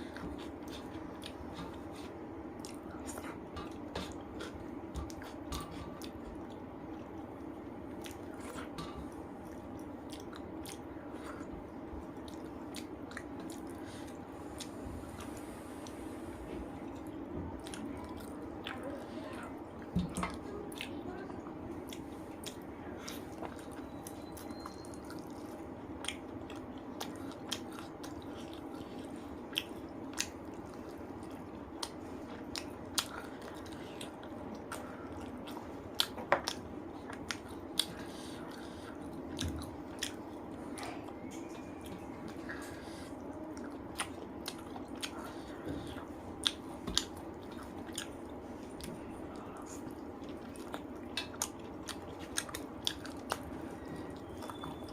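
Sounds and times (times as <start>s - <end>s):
chewing and wet mouth sounds: 0.0s - 54.9s
low background hum: 0.0s - 54.9s.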